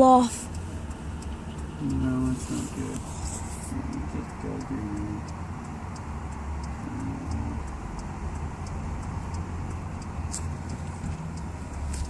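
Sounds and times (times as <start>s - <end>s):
quick regular ticking: 0.0s - 12.0s.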